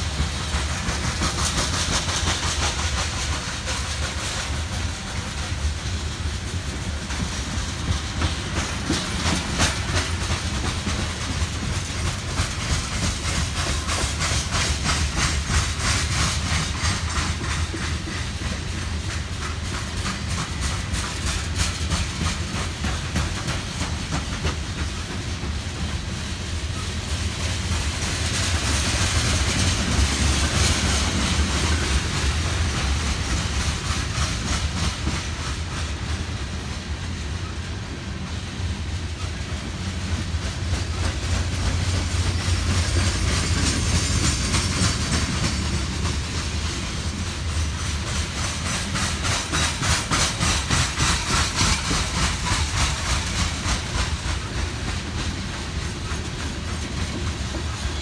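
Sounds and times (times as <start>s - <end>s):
train wheels rumbling and clicking: 0.0s - 58.0s.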